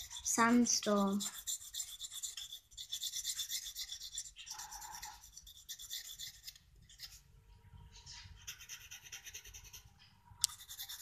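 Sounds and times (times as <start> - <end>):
pencil scratching on bauble: 0.0 - 7.2, 8.2 - 11.0.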